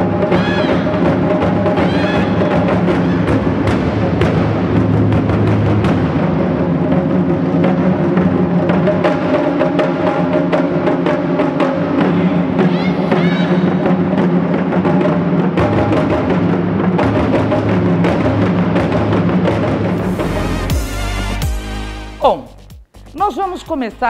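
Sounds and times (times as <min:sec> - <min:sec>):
taiko drums beating: 0:00.0 - 0:20.4.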